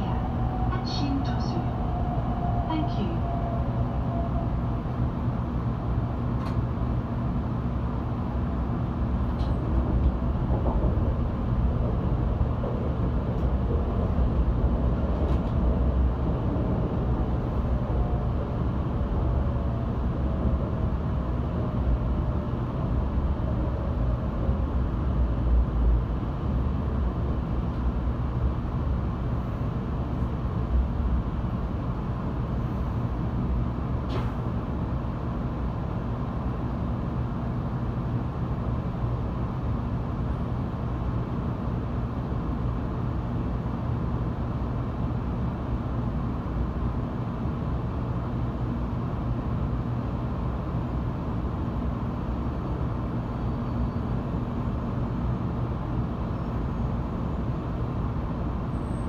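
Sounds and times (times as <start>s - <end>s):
train running gear rumble: 0.0s - 59.0s.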